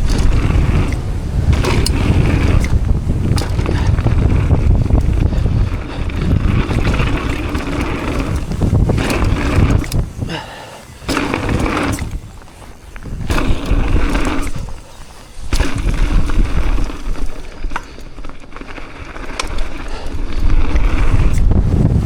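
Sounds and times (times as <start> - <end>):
bike knocks and rattles: 0.0 - 22.0
tyres rolling on dirt: 0.0 - 22.0
wind buffeting microphone: 0.0 - 22.0.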